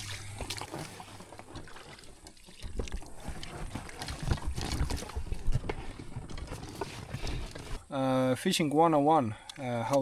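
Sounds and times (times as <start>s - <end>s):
water sloshing around boat: 0.0s - 10.0s.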